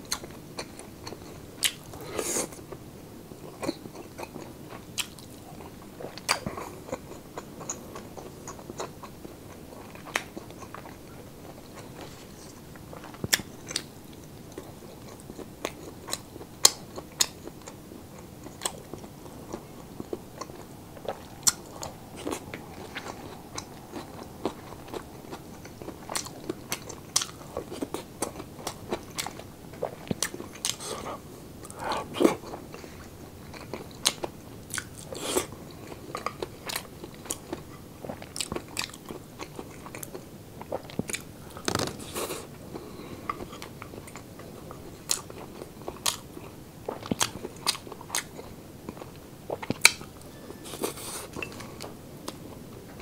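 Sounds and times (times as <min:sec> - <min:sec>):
crunchy food chewing: 0:00.0 - 0:53.0.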